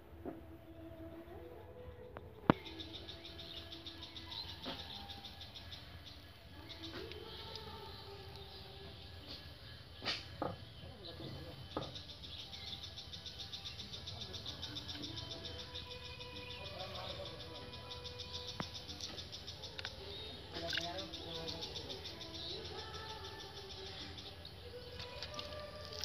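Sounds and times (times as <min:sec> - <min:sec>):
insects chirring: 0:02.6 - 0:26.0.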